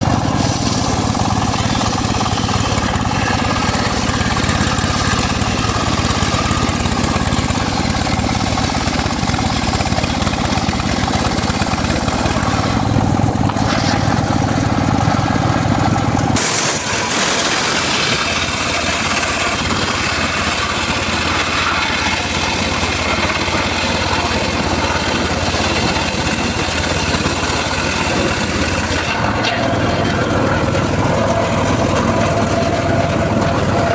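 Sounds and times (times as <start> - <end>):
engine-driven circular saw: 0.0 - 33.9.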